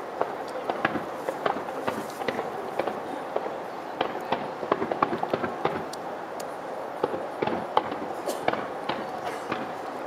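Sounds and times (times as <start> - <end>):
background rumble: 0.0 - 10.0
fireworks popping and crackling: 0.0 - 10.0.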